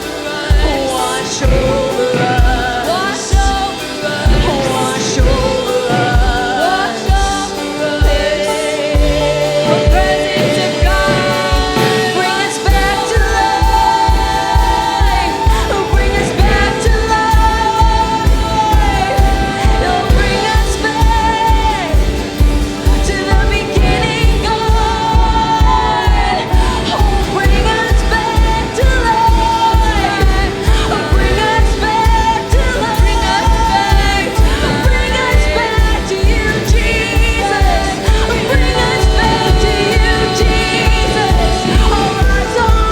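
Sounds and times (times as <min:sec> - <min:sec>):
band playing: 0:00.0 - 0:42.9
voices singing worship music: 0:00.0 - 0:42.9.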